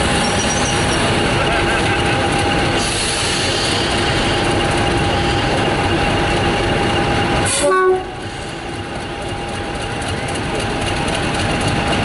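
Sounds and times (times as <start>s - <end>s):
diesel locomotive moving slowly: 0.0s - 12.0s.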